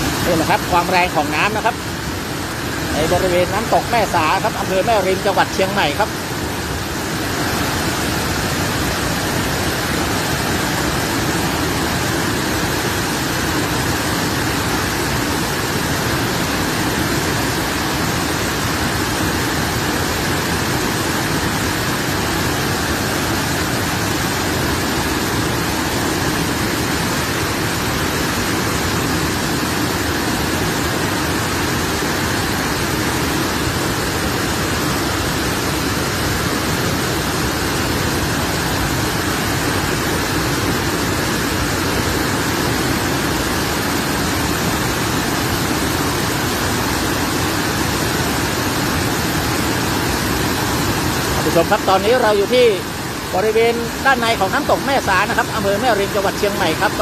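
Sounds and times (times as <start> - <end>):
water rushing down waterfall: 0.0 - 57.0.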